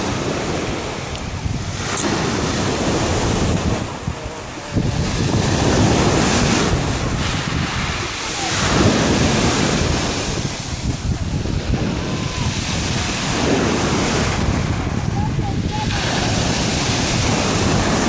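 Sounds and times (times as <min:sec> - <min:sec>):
waves breaking on pebble beach: 0:00.0 - 0:18.0
wind buffeting microphone: 0:00.0 - 0:18.0.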